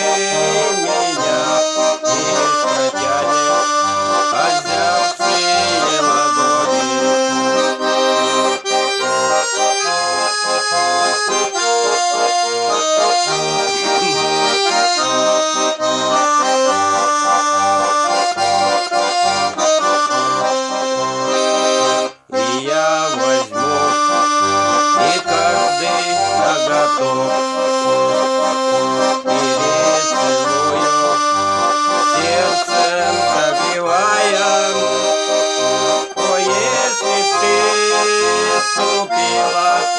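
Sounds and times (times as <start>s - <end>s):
button accordion folk tune: 0.0s - 39.9s.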